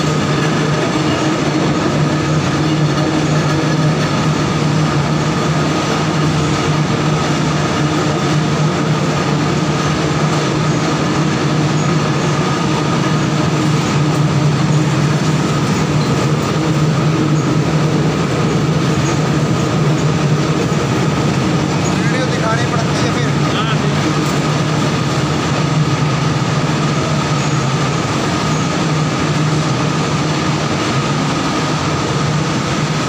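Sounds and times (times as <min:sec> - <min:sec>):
high machine whine: 0:00.0 - 0:33.0.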